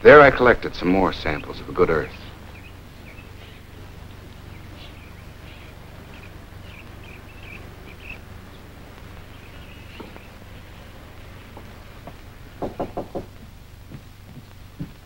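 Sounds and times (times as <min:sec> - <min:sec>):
steady low hum: 0:00.0 - 0:15.0
high bird chirps: 0:01.3 - 0:13.4.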